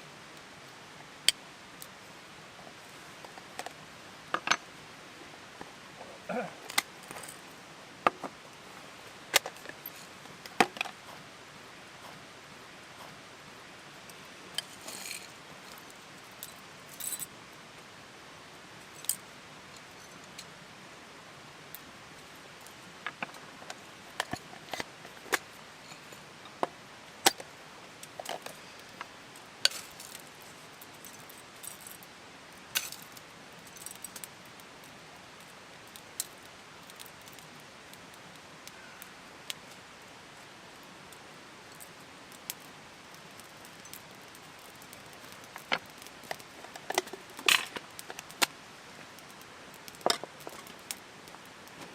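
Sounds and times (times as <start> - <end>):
steady low hiss: 0.0 - 51.9.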